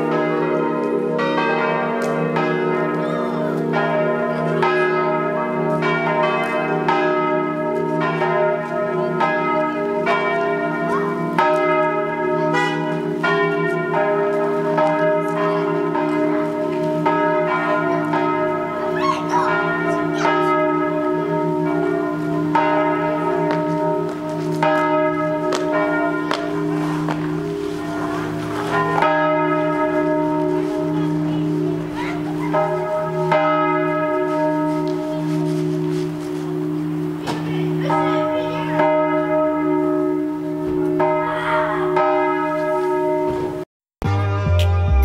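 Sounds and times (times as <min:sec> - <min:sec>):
low hum of bells: 0:00.0 - 0:43.6
church bells ringing: 0:00.0 - 0:45.0.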